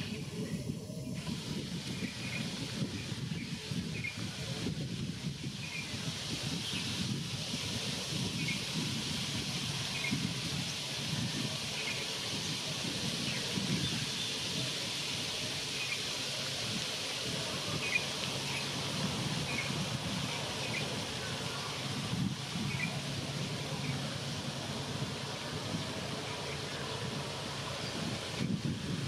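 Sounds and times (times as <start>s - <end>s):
open-air noise: 0.0s - 29.0s.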